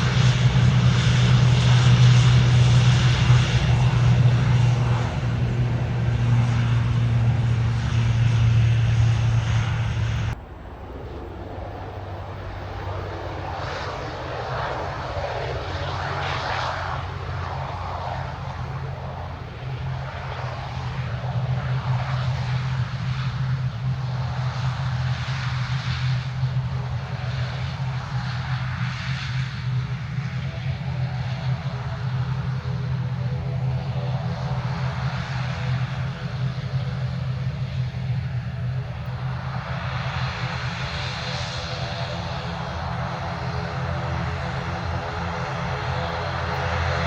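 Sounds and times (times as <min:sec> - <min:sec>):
aircraft engines droning: 0:00.0 - 0:47.0.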